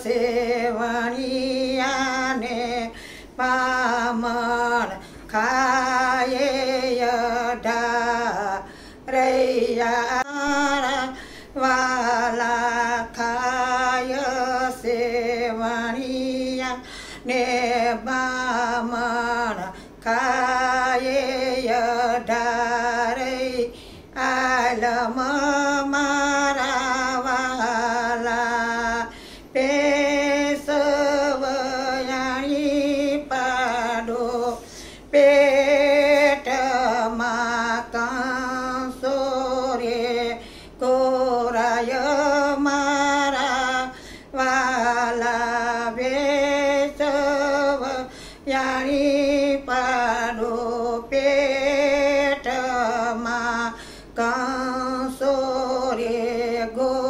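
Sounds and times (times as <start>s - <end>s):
woman singing devotional song: 0.0s - 57.0s.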